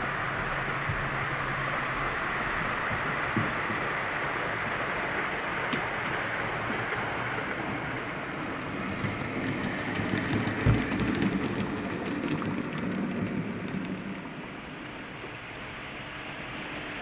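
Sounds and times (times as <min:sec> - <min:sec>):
wheels clicking over rail joints: 0:00.0 - 0:15.7.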